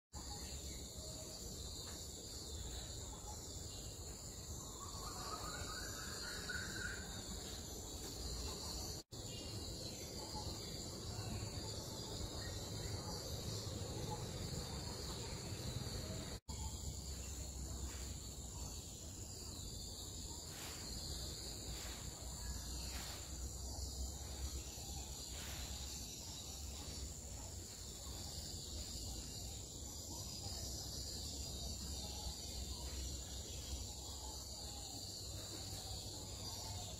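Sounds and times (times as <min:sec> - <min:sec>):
high-pitched insect chorus: 0:00.2 - 0:36.9.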